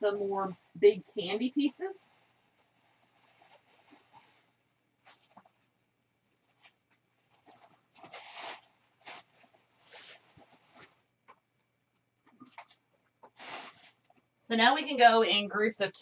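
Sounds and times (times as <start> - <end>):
rustling and crinkling of materials: 0.0 - 14.4.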